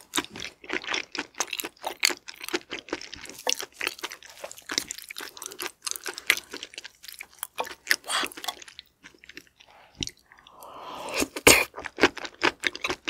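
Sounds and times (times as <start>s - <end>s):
close-miked wet chewing: 0.0s - 13.0s.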